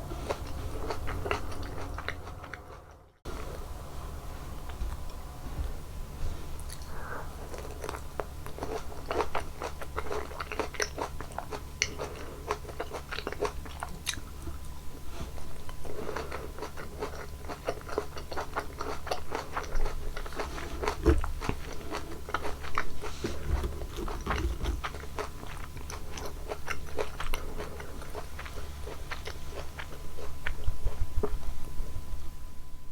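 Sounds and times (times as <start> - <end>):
biting and chewing juicy fruit: 0.0 - 3.7, 6.5 - 31.9.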